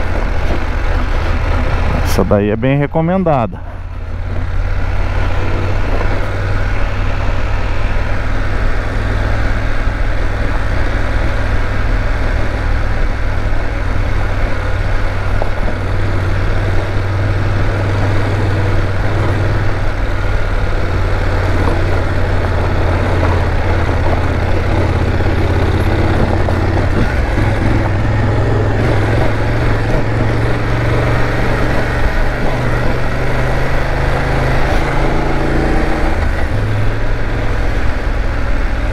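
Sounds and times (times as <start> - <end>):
motorcycle engine drone: 0.0 - 38.9
wind and road noise: 0.0 - 38.9.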